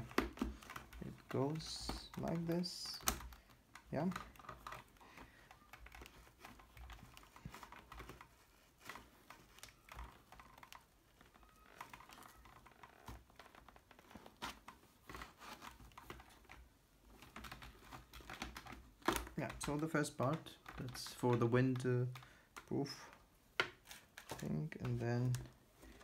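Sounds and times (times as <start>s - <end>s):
fingers clicking and scratching helmet: 0.0s - 26.0s.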